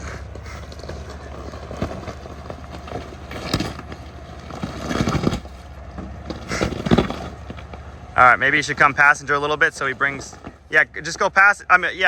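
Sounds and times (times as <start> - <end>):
truck engine rumble: 0.0 - 12.0
tyres crunching on rock: 0.0 - 12.0.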